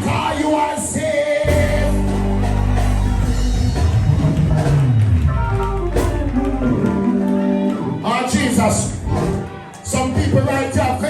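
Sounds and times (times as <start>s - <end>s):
instrumental band music: 1.4s - 11.0s.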